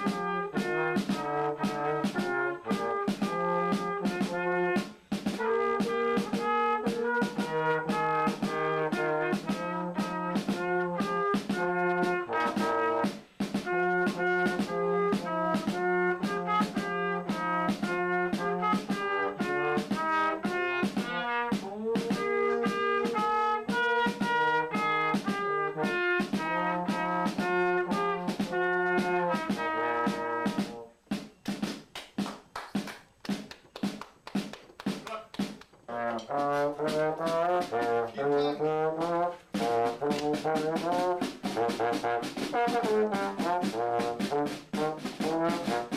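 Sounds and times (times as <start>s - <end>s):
band instruments playing: 0.0s - 31.8s, 34.8s - 45.9s.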